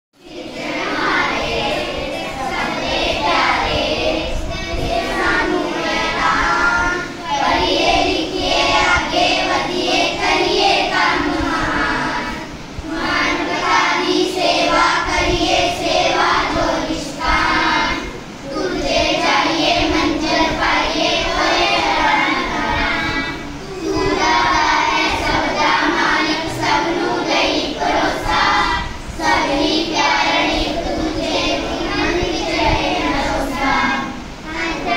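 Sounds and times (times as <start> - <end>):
children singing in unison: 0.2 - 34.9.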